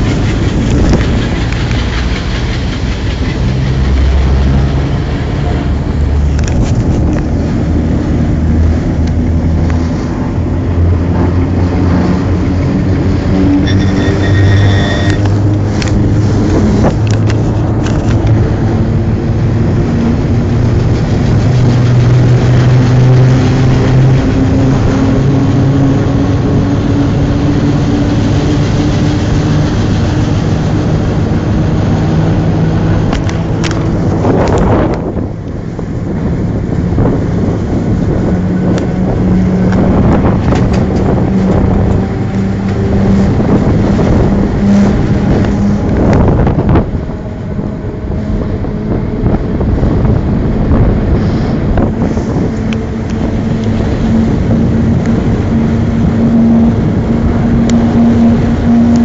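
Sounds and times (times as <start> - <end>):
locomotive engine drone: 0.0 - 59.0
wind noise on microphone: 0.0 - 59.0.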